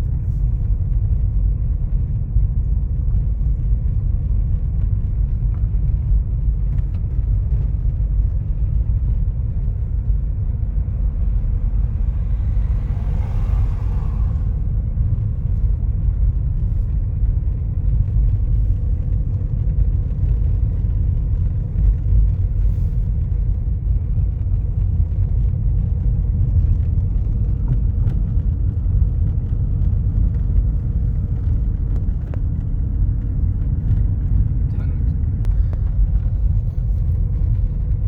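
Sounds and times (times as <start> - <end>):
faint engine hum: 0.0 - 38.0
vehicle rumble: 0.0 - 38.0.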